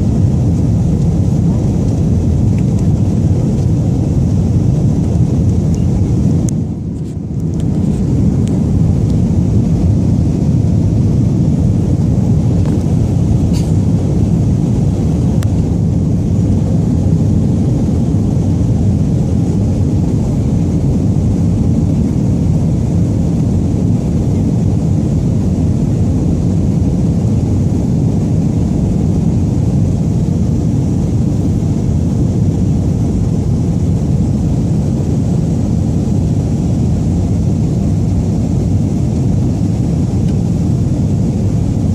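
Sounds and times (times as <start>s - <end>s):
jet engines rumbling in cabin: 0.0s - 41.9s
rushing air: 0.0s - 41.9s.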